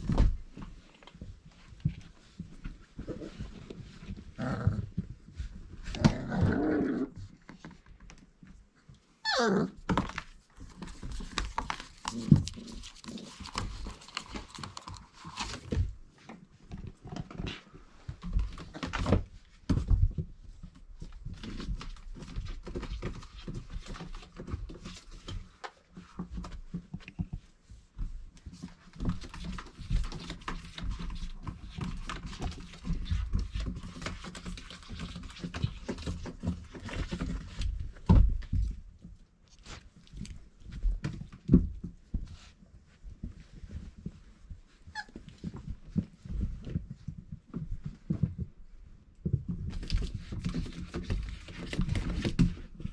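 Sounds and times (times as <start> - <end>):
puppies scuffling: 0.0 - 9.2, 9.8 - 52.9.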